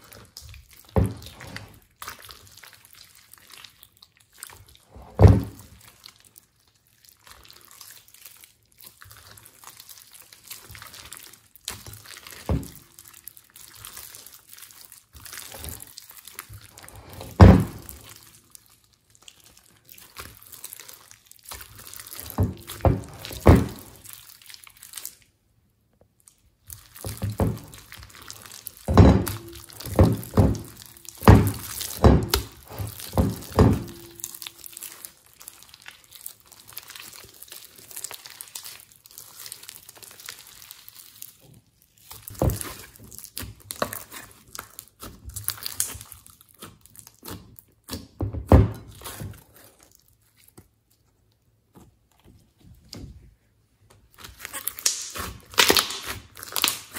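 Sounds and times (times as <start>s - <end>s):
hands squeezing sticky slime: 0.0s - 56.9s.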